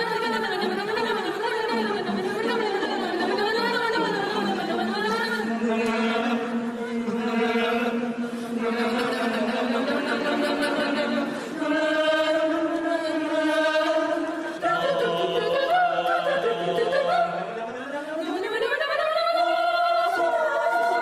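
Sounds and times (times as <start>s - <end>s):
mixed choir singing chords: 0.0s - 21.0s.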